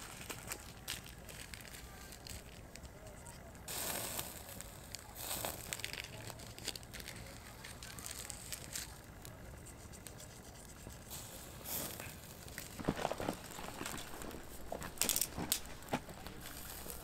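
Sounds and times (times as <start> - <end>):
paper crinkling: 0.0 - 3.4, 4.6 - 10.3, 12.0 - 17.0
fire pops: 0.0 - 10.1, 11.0 - 17.0
campfire crackling: 0.0 - 17.0.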